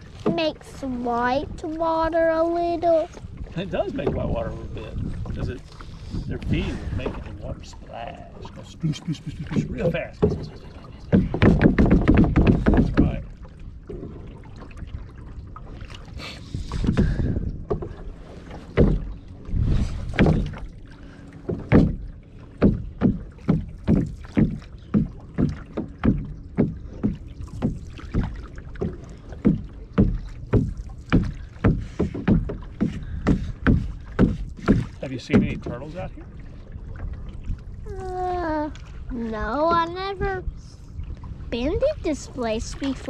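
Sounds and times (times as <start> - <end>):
paddle strokes in water: 0.0 - 43.0.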